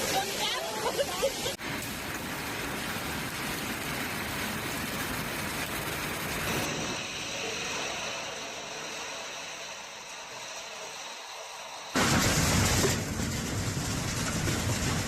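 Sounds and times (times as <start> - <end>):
hailstorm rushing: 0.0 - 15.0.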